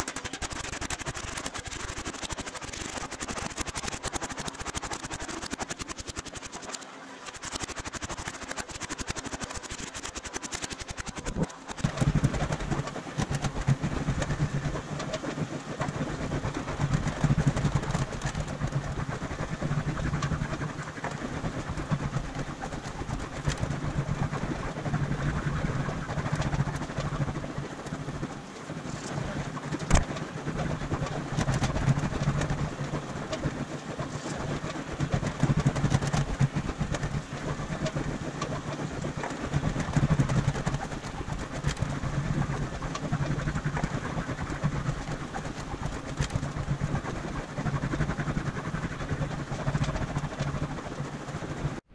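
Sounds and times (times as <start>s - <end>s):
machine humming and rattling: 0.0s - 51.9s.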